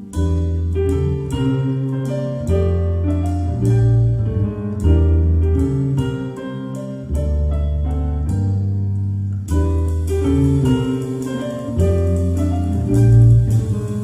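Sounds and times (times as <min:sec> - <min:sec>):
low bass note: 0:00.0 - 0:14.0.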